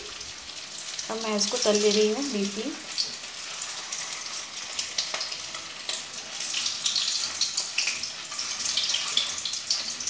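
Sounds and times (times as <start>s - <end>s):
food deep-frying in hot oil: 0.0s - 10.0s.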